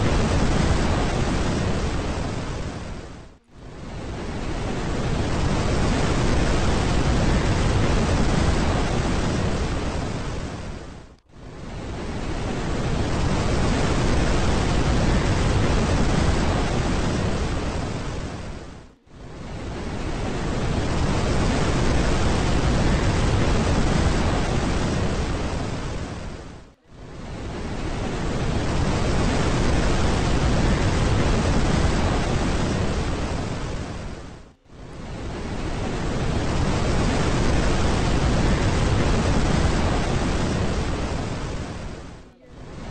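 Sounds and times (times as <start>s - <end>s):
steady rushing noise: 0.0s - 42.9s.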